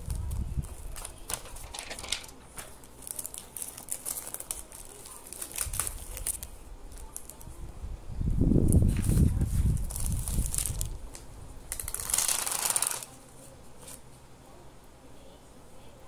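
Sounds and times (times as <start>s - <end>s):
plastic sheet crackling: 0.0s - 7.6s, 8.6s - 14.0s.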